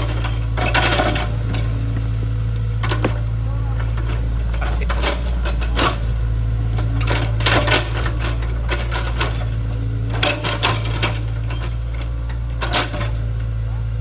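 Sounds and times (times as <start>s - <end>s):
metallic clanks and knocks: 0.0s - 2.0s, 2.8s - 13.5s
excavator diesel engine droning: 0.0s - 14.0s.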